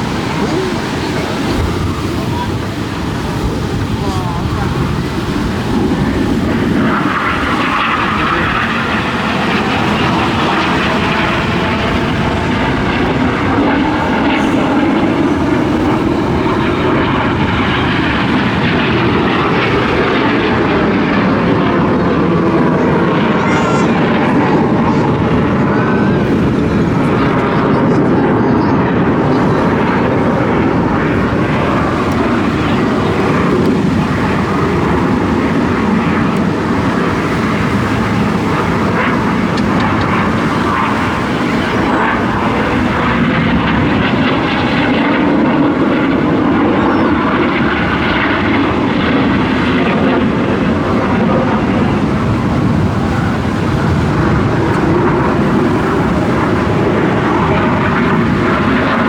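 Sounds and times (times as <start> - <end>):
aircraft engine overhead: 0.0 - 59.0.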